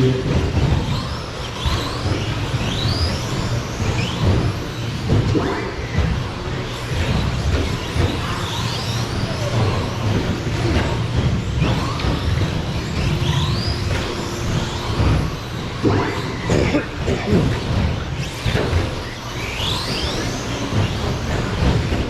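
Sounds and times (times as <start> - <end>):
rc truck motors whining: 0.0 - 22.0.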